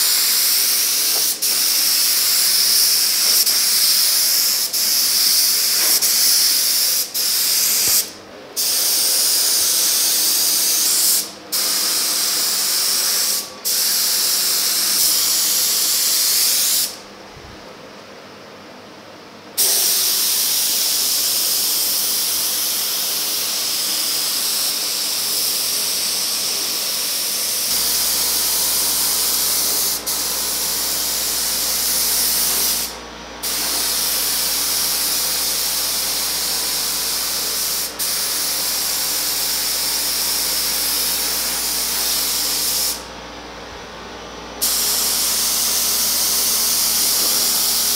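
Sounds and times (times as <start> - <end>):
paint spray gun hissing: 0.0 - 17.0, 19.6 - 43.1, 44.6 - 47.9.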